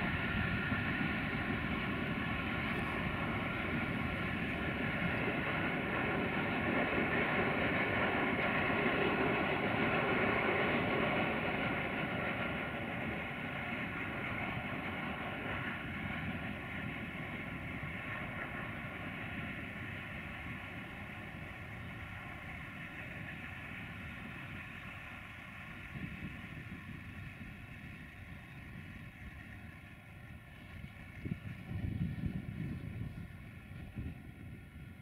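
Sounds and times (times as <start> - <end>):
distant freight train rolling: 0.0 - 35.0.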